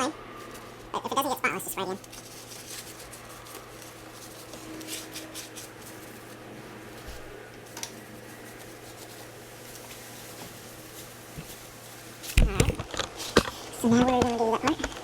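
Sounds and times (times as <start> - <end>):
paper towel rubbing: 0.3 - 14.6.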